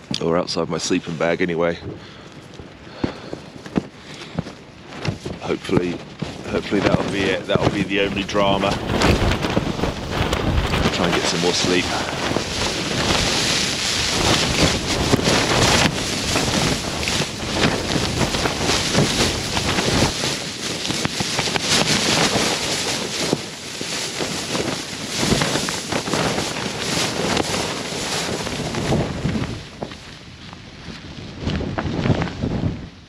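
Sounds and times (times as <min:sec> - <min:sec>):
strong wind gusting: 0:00.0 - 0:33.0
tent fabric flapping: 0:00.0 - 0:33.0
wind buffeting microphone: 0:00.0 - 0:33.0.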